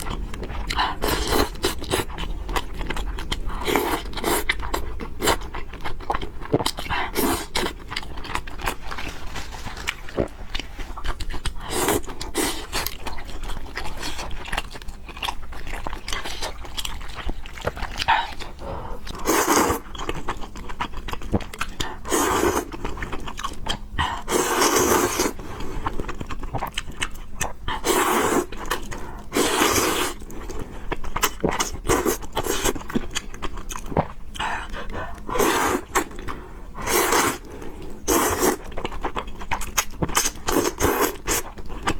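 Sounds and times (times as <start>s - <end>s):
wet chewing and biting: 0.0s - 41.9s.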